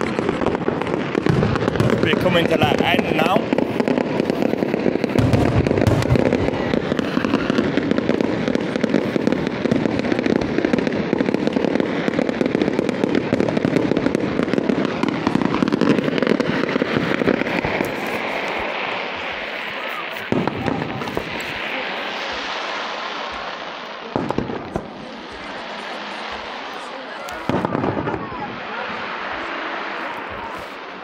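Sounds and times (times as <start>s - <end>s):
fireworks bangs and crackling: 0.0s - 31.0s
heavy low fireworks booms: 0.0s - 31.0s.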